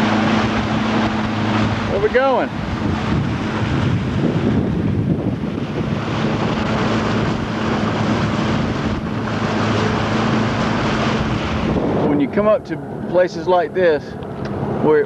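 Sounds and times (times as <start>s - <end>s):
boat motor humming: 0.0s - 15.0s
wind noise on microphone: 0.0s - 15.0s.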